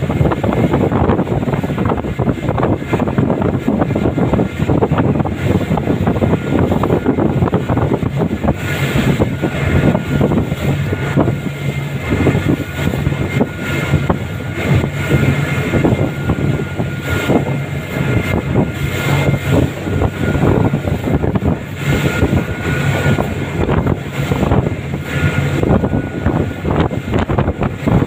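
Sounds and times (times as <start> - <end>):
outboard motors droning: 0.0 - 28.0
water churning: 0.0 - 28.0
wind rushing: 0.0 - 28.0.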